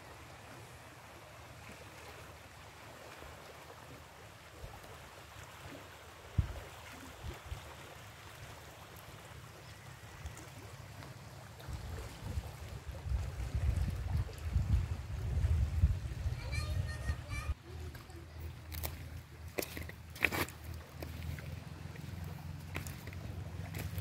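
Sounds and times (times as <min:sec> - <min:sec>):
water lapping among rocks: 0:00.0 - 0:24.0.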